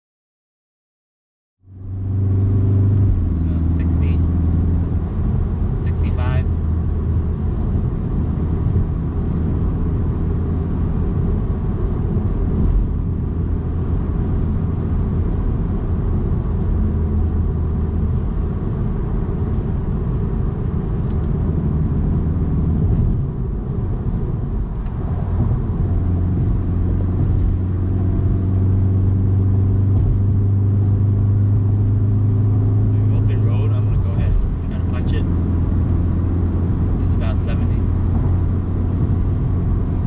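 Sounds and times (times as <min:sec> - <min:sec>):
wind and road noise: 0:01.6 - 0:40.0
steady low hum: 0:01.7 - 0:40.0.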